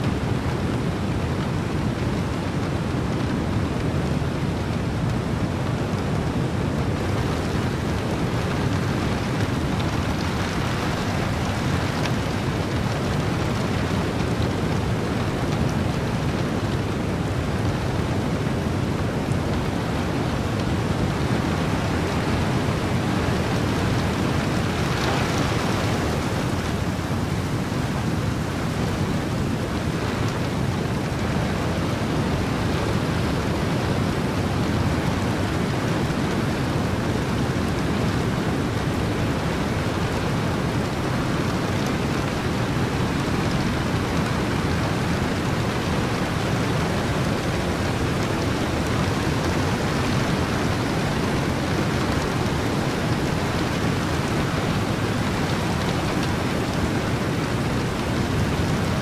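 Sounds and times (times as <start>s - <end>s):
ocean surf: 0.0s - 59.0s
steady rain: 0.0s - 59.0s
wind: 0.0s - 59.0s.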